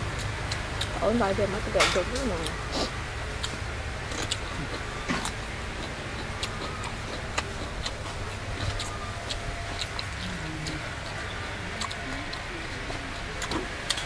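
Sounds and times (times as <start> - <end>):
low background rumble: 0.0 - 14.0
mouth clicks and smacks chewing: 0.1 - 1.0, 2.1 - 14.0.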